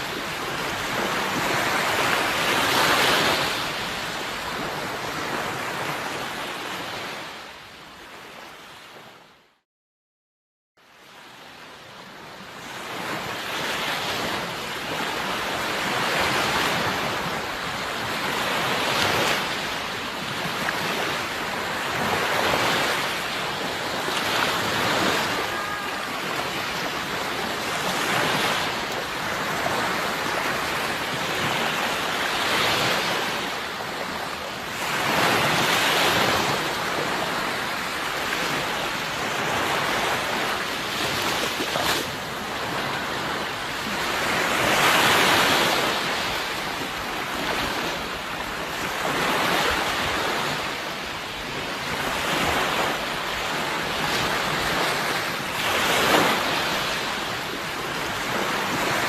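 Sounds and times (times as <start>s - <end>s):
waves breaking: 0.0s - 9.2s, 11.0s - 59.0s.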